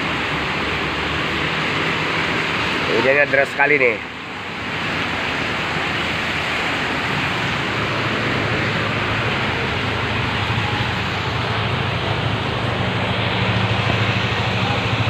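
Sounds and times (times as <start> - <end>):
heavy rain falling: 0.0 - 15.0
vehicle engine hum: 0.0 - 15.0.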